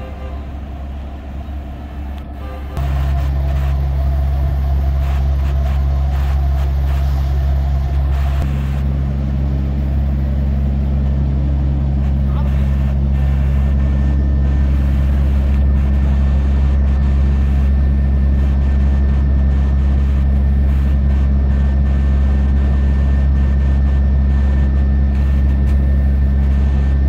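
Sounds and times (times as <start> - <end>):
diesel engine idling: 0.0 - 27.0
faint high whine: 0.0 - 27.0.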